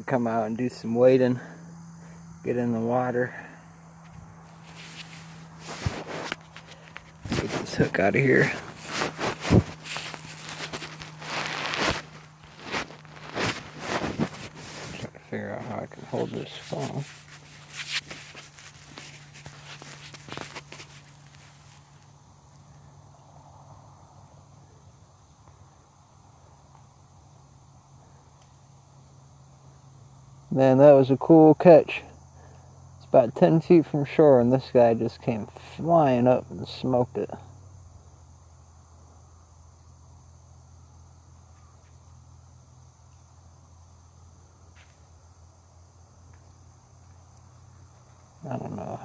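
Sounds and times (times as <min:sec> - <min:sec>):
high insect drone: 0:00.0 - 0:49.0.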